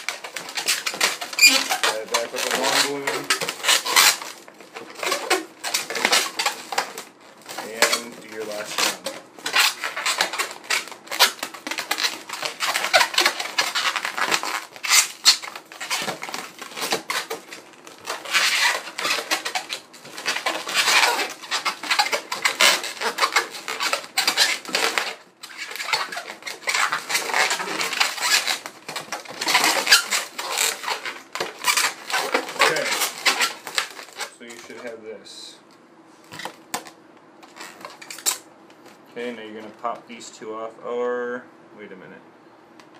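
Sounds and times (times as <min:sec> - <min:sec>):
balloons squeaking and crackling: 0:00.0 - 0:35.6, 0:36.2 - 0:39.9.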